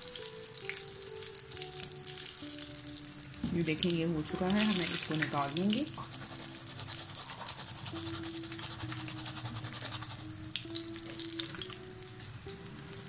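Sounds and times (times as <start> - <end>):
crackling sizzle of deep-frying: 0.0 - 13.0.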